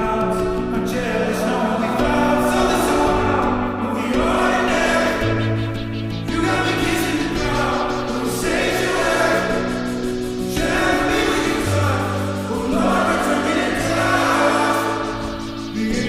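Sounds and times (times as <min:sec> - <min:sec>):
pop song with choir-like singing: 0:00.0 - 0:16.0.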